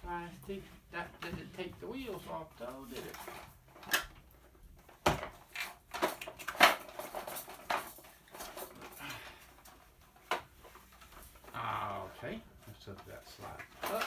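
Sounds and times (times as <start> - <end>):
plastic toy parts clattering: 1.2 - 11.5, 13.0 - 14.0.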